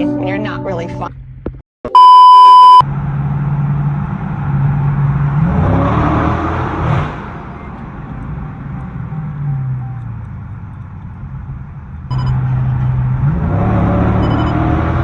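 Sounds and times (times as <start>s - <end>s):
car engine revving: 2.8s - 15.0s.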